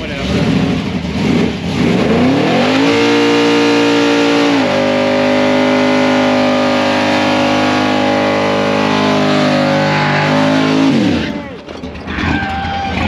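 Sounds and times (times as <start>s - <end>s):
engine revving high: 0.0s - 11.5s.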